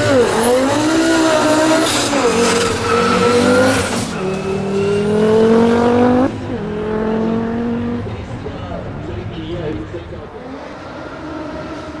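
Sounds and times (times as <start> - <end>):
race car engine accelerating hard: 0.0 - 8.4, 9.8 - 12.0.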